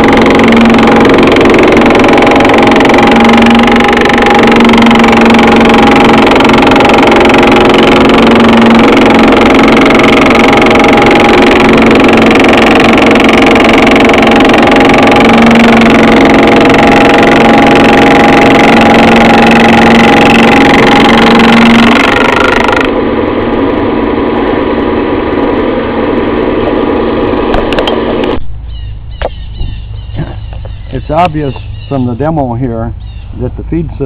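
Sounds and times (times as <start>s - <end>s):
thickness planer hum and whine: 0.0s - 34.0s.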